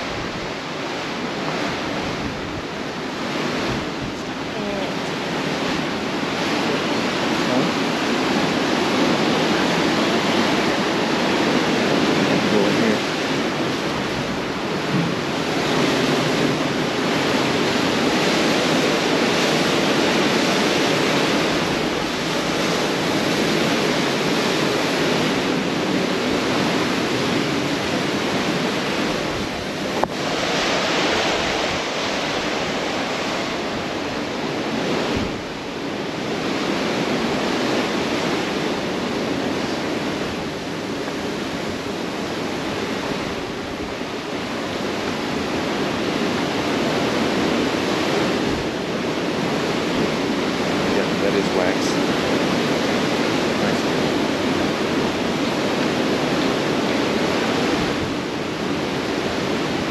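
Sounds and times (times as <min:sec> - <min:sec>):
wind and water rushing along hull: 0:00.0 - 0:59.9
wind buffeting microphone: 0:00.0 - 0:59.9.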